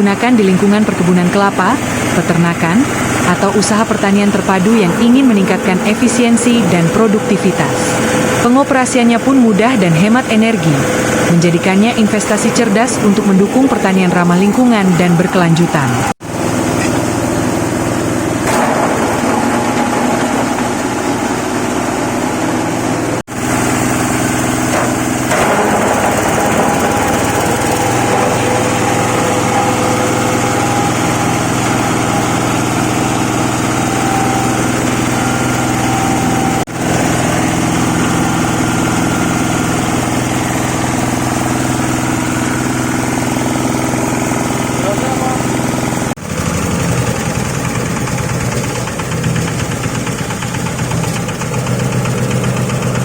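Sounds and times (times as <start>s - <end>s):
engine-driven chopper running: 0.0s - 53.0s.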